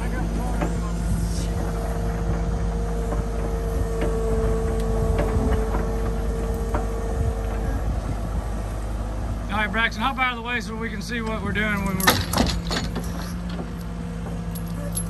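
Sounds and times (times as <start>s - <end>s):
high whine: 0.0s - 12.2s
excavator diesel engine running: 0.0s - 15.0s.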